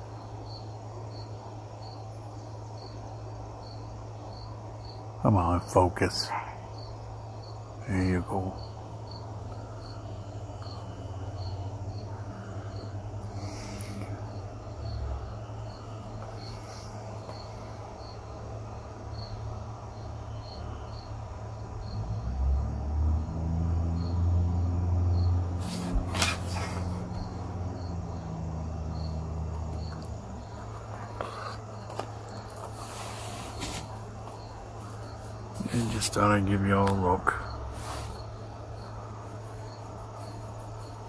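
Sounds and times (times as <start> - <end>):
crickets chirping: 0.0 - 41.0
low steady hum: 0.0 - 41.0.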